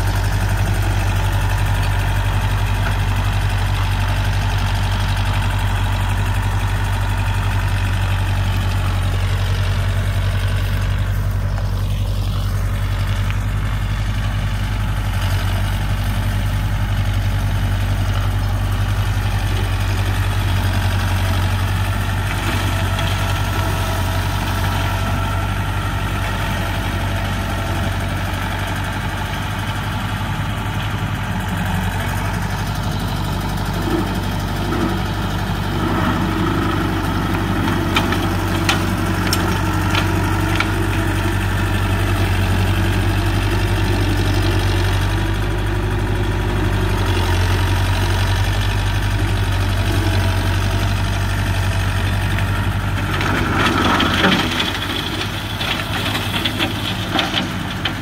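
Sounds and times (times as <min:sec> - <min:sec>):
flail mulcher shredding brush: 0:00.0 - 0:58.0
tractor diesel engine: 0:00.0 - 0:58.0.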